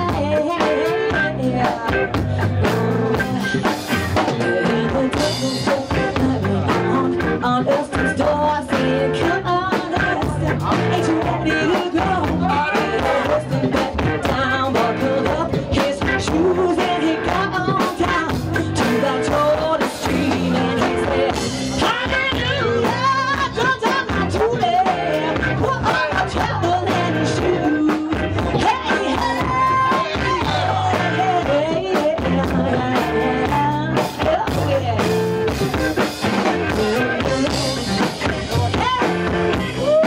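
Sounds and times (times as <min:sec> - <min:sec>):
drum kit: 0:00.0 - 0:40.0
electric guitars: 0:00.0 - 0:40.0.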